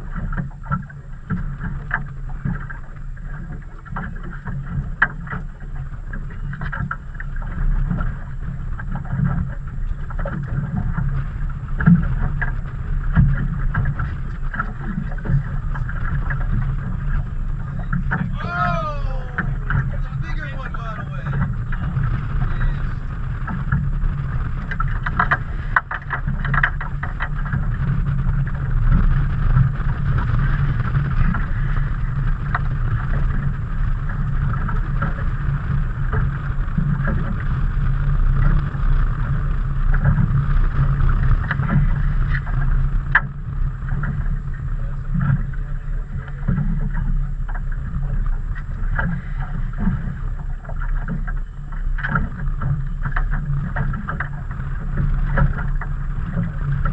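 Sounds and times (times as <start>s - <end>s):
water splashing against boat hull: 0.0s - 56.9s
wind rumble on microphone: 0.0s - 56.9s.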